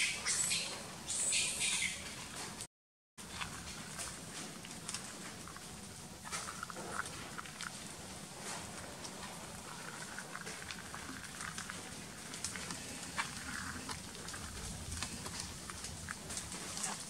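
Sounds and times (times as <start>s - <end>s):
monkeys moving over gravel: 3.2s - 17.0s.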